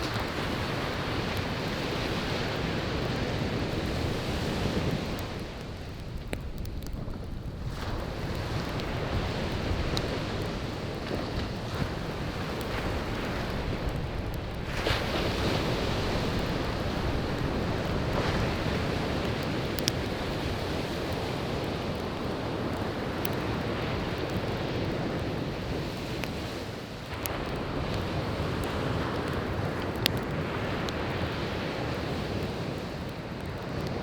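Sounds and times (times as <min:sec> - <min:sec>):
campfire crackling: 0:00.0 - 0:34.0
sea waves washing ashore: 0:00.0 - 0:34.0.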